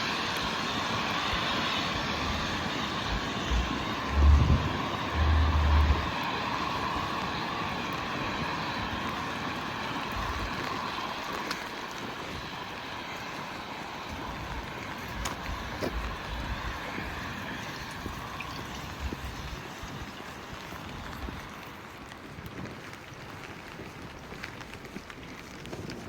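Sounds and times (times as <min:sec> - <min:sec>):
rain hissing: 0:00.0 - 0:26.0
wet city street ambience: 0:00.0 - 0:26.0
wind gusts on microphone: 0:00.2 - 0:26.0.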